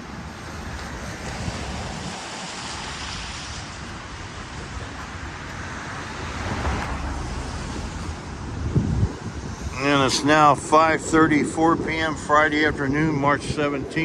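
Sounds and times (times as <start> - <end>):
city traffic noise: 0.0 - 14.0
wind buffeting microphone: 0.0 - 14.0.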